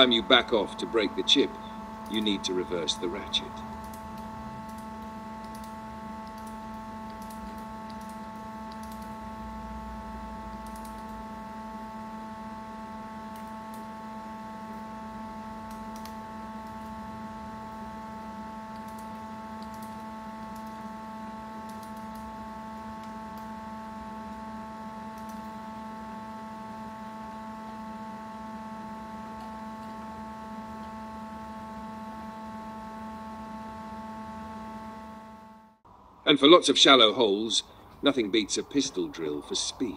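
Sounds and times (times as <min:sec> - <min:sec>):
workshop machinery hum: 0:00.0 - 0:39.9.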